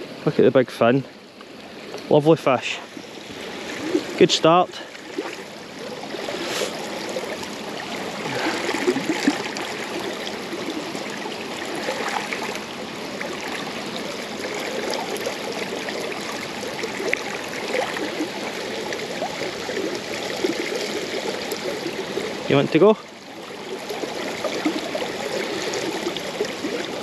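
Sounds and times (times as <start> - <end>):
river water rushing over stones: 0.0 - 27.0
small splashes: 3.0 - 27.0.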